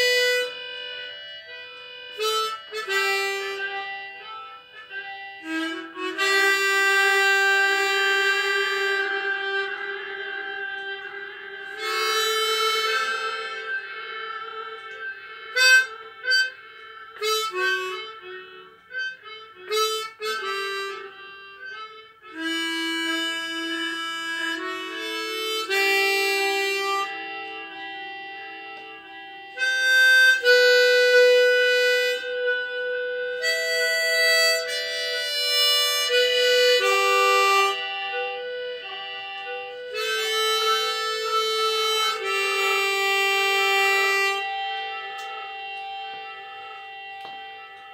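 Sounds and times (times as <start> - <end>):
harmonica playing slow melody: 0.0 - 47.9.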